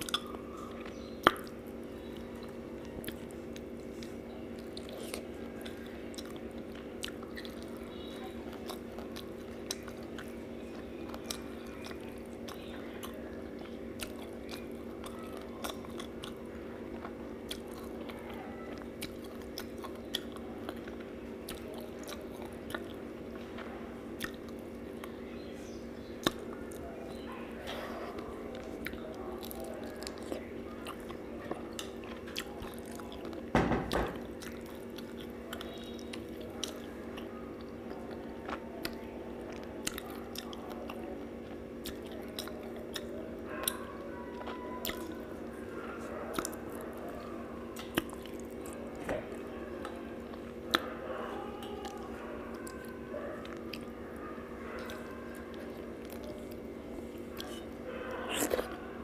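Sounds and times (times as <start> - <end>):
chewing and mouth clicks: 0.0 - 58.9
steady low hum: 0.0 - 59.0.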